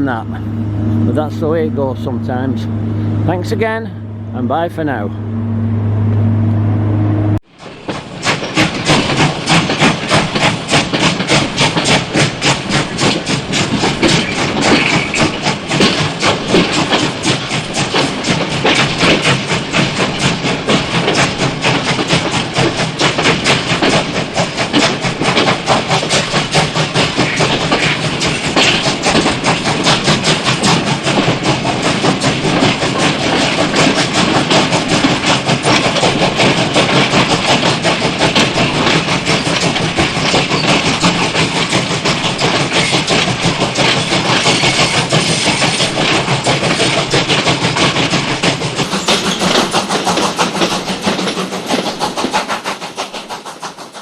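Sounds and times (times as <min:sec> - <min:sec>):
train clattering on rails: 0:00.0 - 0:05.2, 0:07.4 - 0:54.0.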